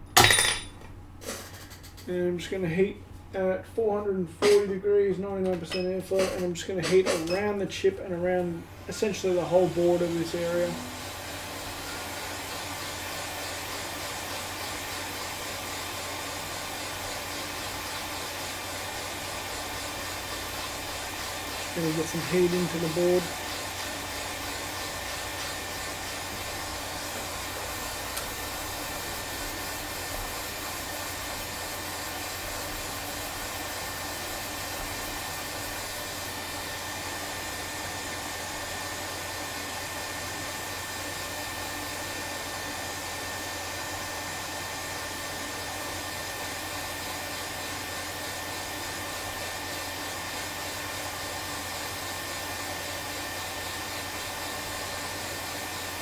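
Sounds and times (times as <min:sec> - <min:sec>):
hot air blower hissing: 0:05.6 - 0:56.0.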